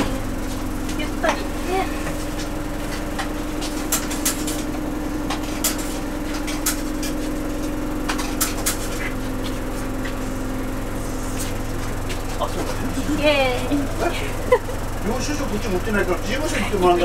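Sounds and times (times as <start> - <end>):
bus engine hum: 0.0 - 17.0
sharp clicks and rattles: 2.2 - 16.7.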